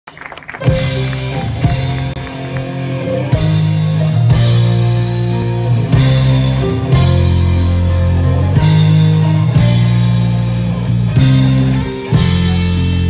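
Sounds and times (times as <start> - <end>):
bass guitar: 0.3 - 13.0
electric guitar: 0.3 - 13.0
drum kit: 0.5 - 13.0.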